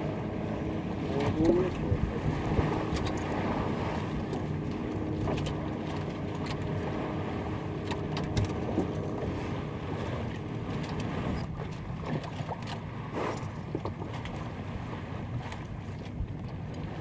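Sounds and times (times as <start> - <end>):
low rumble: 0.0 - 14.9
rush of wind and water: 0.0 - 17.0.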